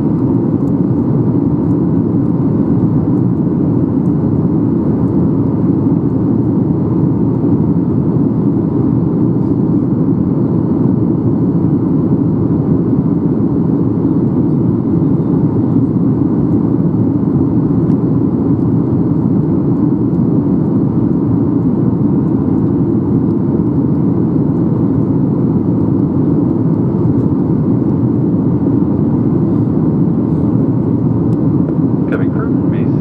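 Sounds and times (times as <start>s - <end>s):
airplane cabin engine rush: 0.0s - 33.0s.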